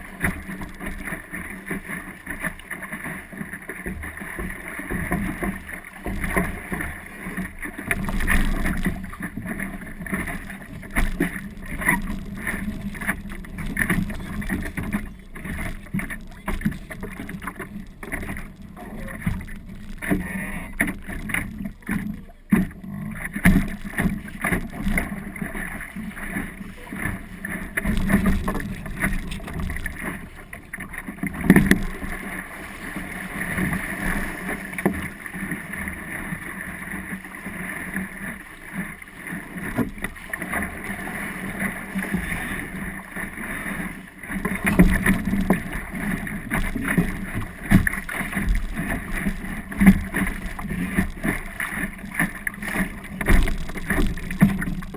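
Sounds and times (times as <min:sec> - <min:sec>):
water rushing along a hull: 0:00.0 - 0:54.9.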